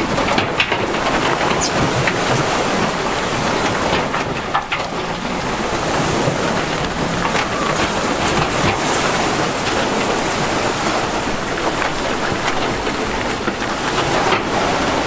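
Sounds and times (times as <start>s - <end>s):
diesel engine of heavy machinery: 0.0s - 15.0s.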